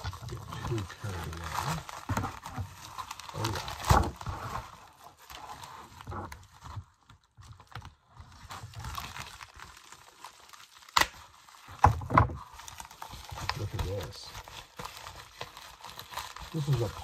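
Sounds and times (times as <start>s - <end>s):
envelope crinkling and rustling: 0.0s - 17.0s
sharp envelope crackle: 0.0s - 17.0s.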